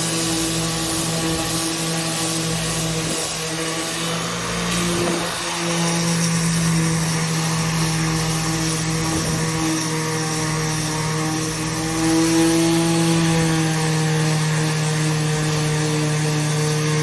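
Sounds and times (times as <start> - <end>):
electric sander motor hum: 0.0 - 17.0
sandpaper hissing on wood: 0.0 - 17.0.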